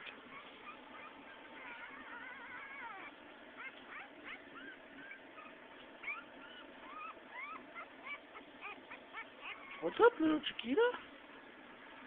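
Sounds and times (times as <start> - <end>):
puppies whimpering: 0.1 - 10.2.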